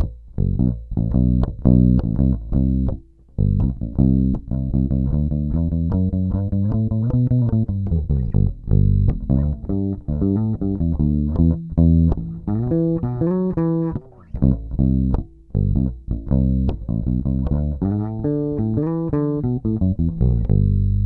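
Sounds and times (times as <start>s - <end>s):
electric bass plucked notes: 0.0s - 21.0s.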